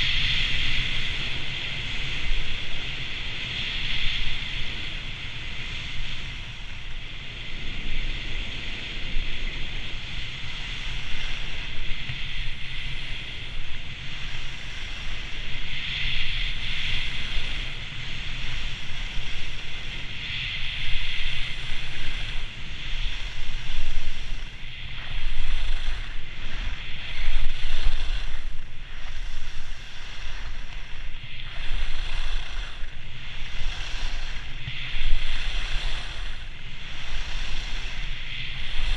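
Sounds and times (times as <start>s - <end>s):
skis hissing on snow: 0.0s - 38.9s
wind buffeting microphone: 0.0s - 38.9s.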